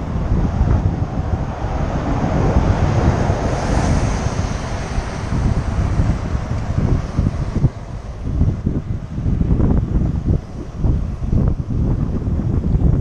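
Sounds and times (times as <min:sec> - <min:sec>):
bus passing: 0:00.0 - 0:13.0
wind buffeting microphone: 0:00.0 - 0:13.0.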